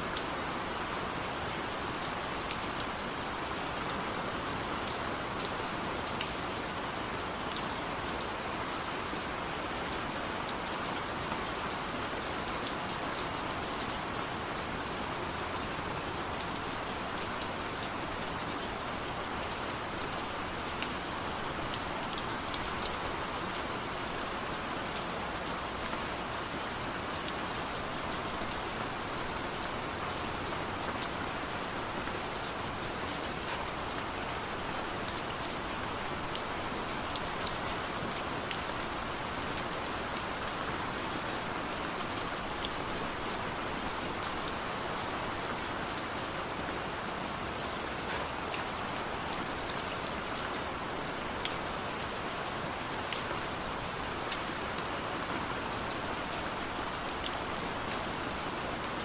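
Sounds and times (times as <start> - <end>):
sharp drips of raindrops: 0.0 - 59.0
steady rain falling: 0.0 - 59.0.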